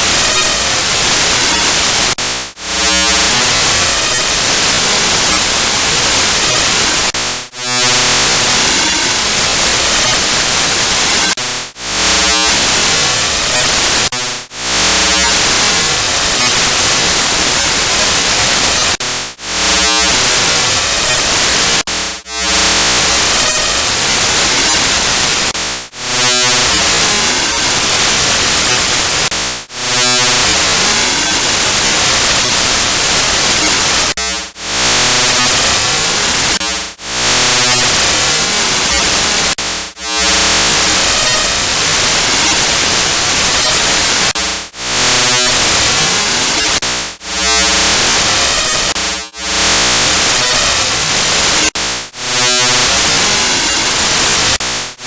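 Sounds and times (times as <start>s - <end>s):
harsh static hiss: 0.0s - 55.0s.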